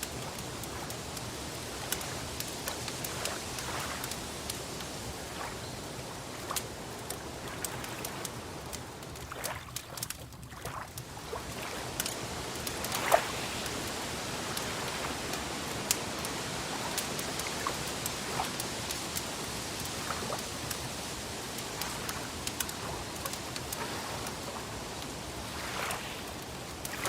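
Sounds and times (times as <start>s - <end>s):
crackling fire: 0.0s - 27.0s.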